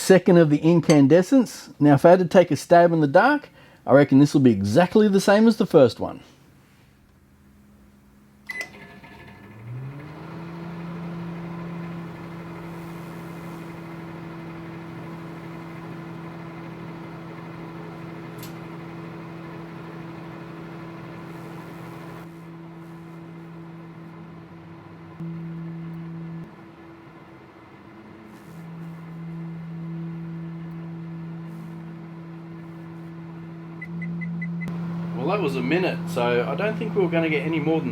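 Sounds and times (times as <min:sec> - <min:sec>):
microwave humming: 0:07.5 - 0:37.9.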